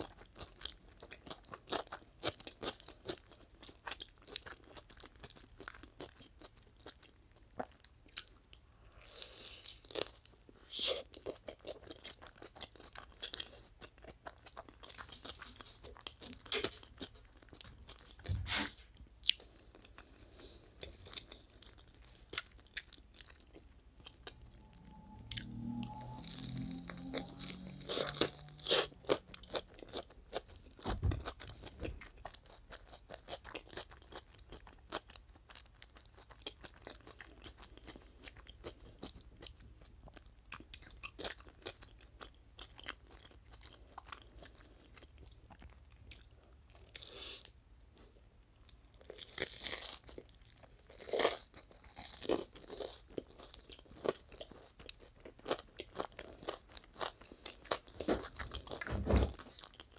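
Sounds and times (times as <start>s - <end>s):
crunching toasted sandwich: 0.0s - 8.4s, 9.0s - 59.9s.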